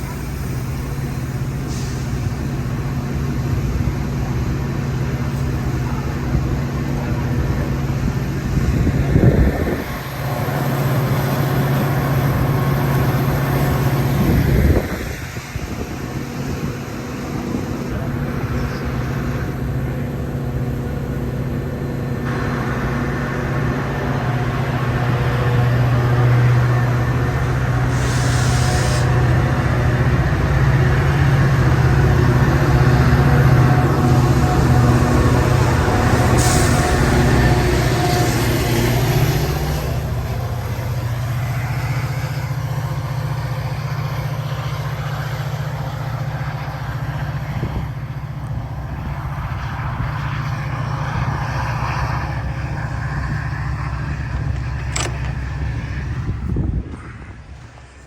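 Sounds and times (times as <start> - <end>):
diesel locomotive engine hum: 0.0 - 58.0.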